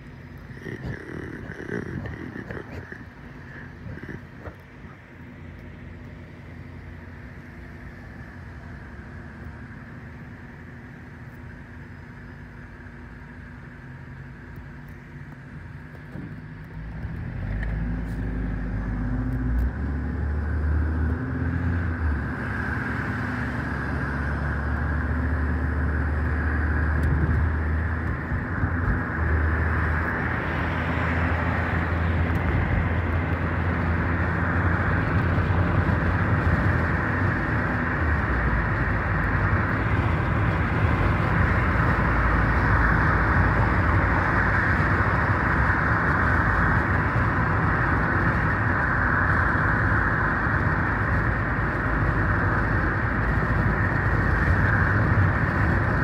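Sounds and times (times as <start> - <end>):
car engine hum: 0.0 - 56.0
tyres and wind rushing: 0.0 - 56.0.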